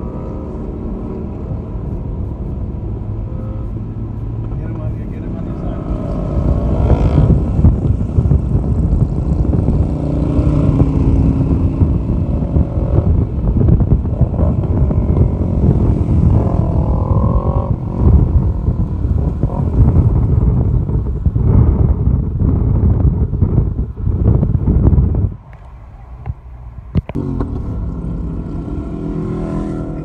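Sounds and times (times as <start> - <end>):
motorcycle engines revving: 0.0 - 23.7, 27.0 - 30.0
road and wind rumble: 0.0 - 30.0.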